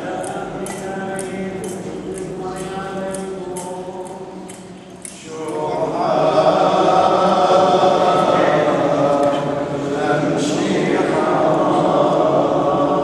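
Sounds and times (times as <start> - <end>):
men singing a liturgical chant: 0.0 - 13.0.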